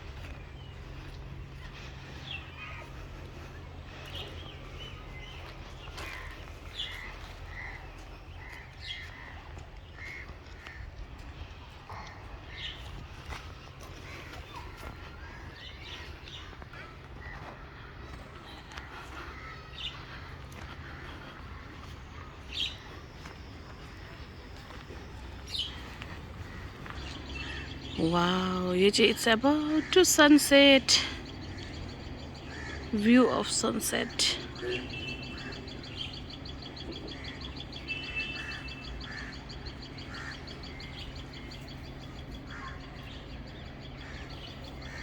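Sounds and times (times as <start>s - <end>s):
birds calling: 0.0s - 45.0s
steady low rumble: 0.0s - 45.0s.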